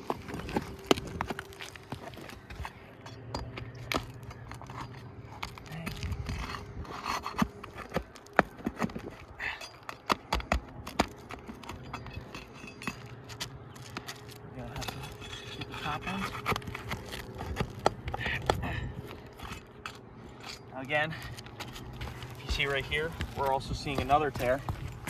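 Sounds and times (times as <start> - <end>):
steady low hum: 0.0 - 25.0
metal tool prying roofing nails: 4.8 - 25.0.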